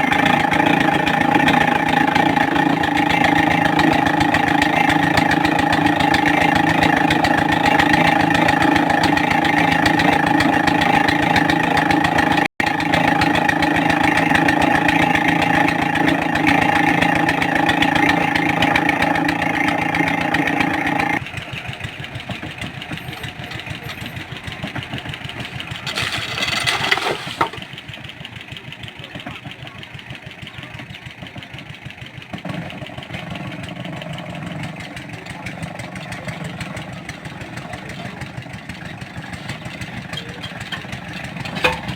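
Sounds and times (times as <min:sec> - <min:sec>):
drilling rig engine running: 0:00.0 - 0:41.9.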